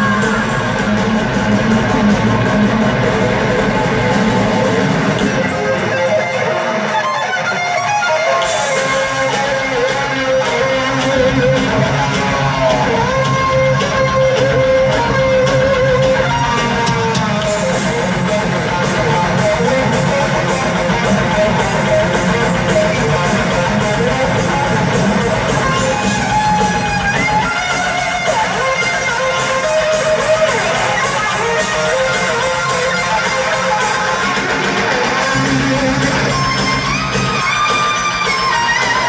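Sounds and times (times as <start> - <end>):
fast drums and cymbals: 0.0 - 7.2, 7.8 - 39.0
distorted electric guitars: 0.0 - 39.0.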